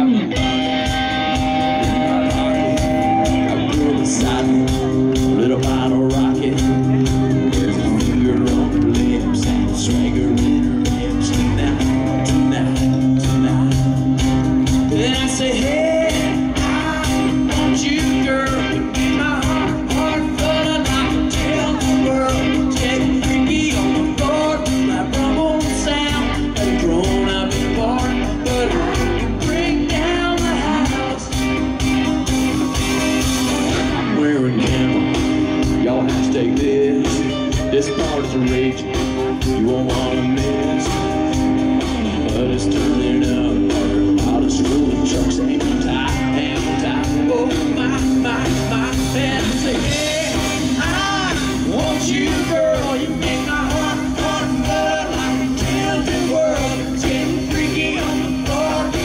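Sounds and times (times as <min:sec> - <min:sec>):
live country band playing: 0:00.0 - 0:59.0
person singing: 0:00.0 - 0:59.0.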